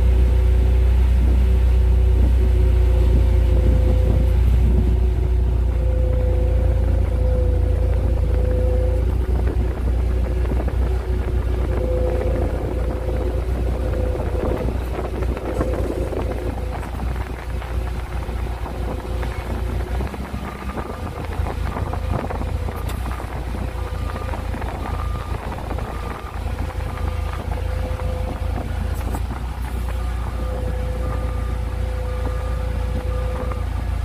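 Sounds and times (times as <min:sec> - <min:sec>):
tow tractor engine rumbling: 0:00.0 - 0:34.0.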